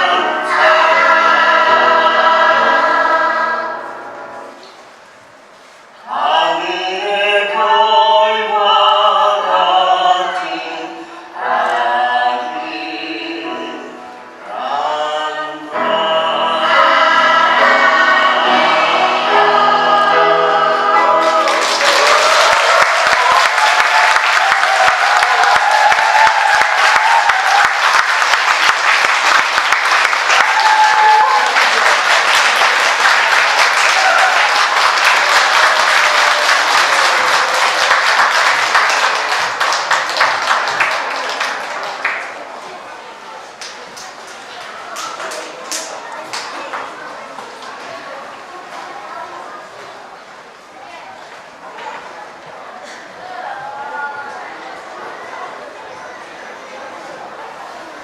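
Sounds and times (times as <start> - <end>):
children's choir singing: 0.0 - 5.2, 6.0 - 50.6.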